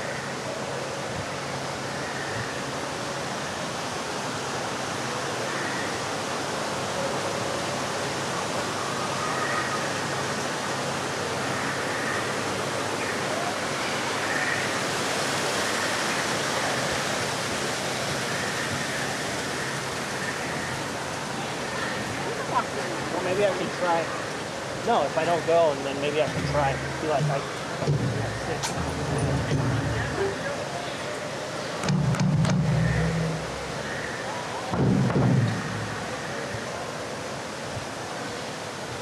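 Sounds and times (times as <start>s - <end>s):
rushing water: 0.0s - 39.0s
distant voices: 7.1s - 38.8s.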